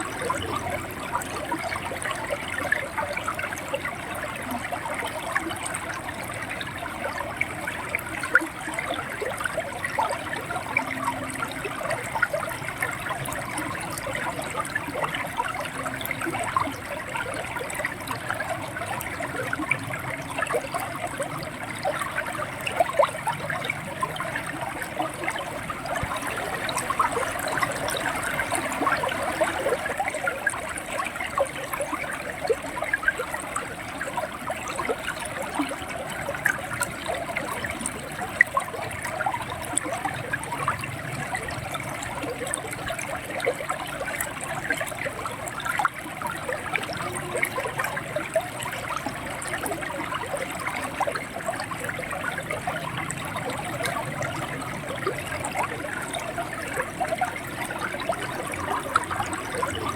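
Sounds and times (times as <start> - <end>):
river water flowing and gurgling: 0.0 - 59.9.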